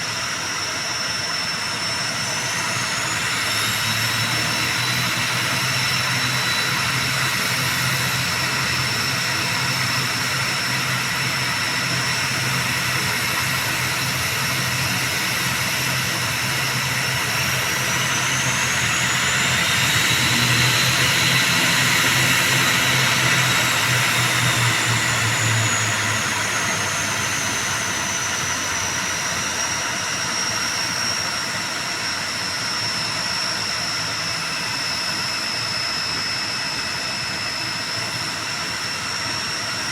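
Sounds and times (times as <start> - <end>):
turboprop engines whining: 0.0 - 39.9.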